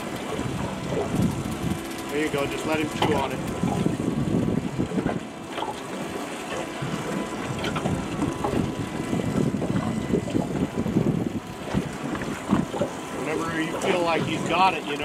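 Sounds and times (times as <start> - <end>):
water sloshing against boat hull: 0.0 - 15.0
wind buffeting microphone: 0.0 - 15.0.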